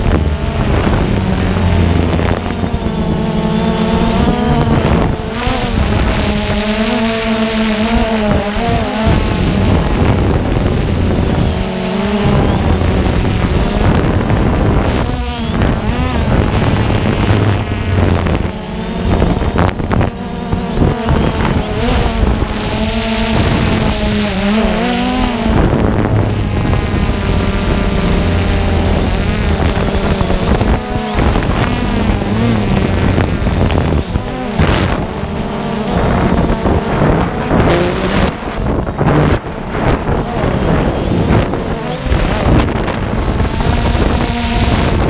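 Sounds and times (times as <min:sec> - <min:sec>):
drone motors buzzing: 0:00.0 - 0:45.0.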